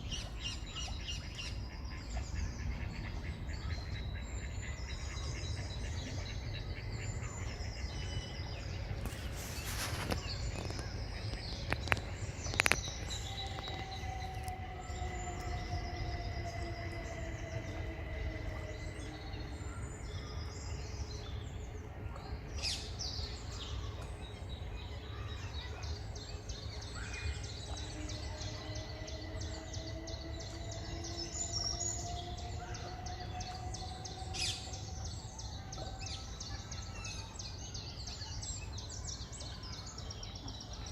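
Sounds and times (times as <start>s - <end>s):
birds chirping and singing: 0.0s - 40.9s
faint gliding hum: 0.0s - 40.9s
low background rumble: 0.0s - 40.9s.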